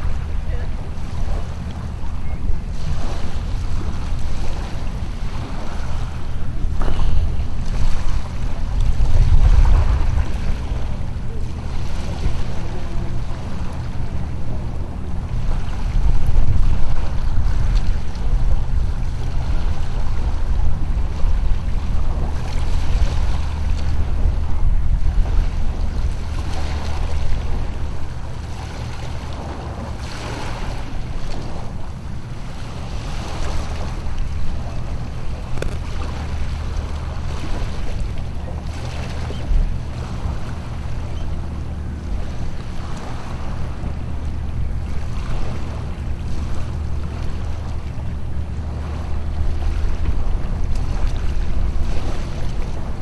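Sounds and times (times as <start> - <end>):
small waves washing onto shore: 0.0 - 53.0
wind buffeting microphone: 0.0 - 53.0.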